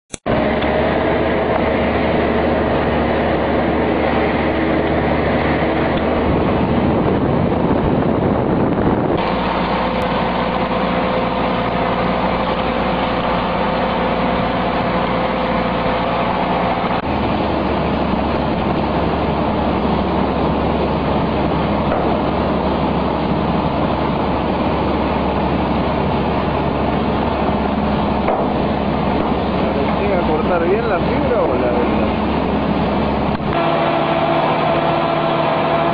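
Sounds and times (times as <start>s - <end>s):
feed mixer wagon droning: 0.2s - 35.9s.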